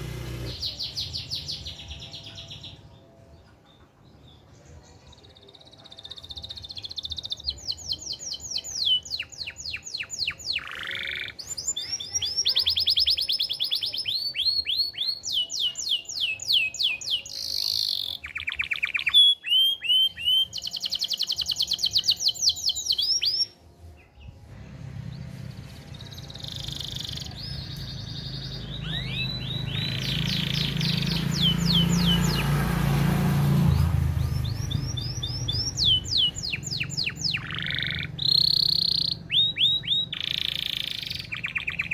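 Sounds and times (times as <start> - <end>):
canary singing trills: 0.0 - 24.4, 25.0 - 41.9.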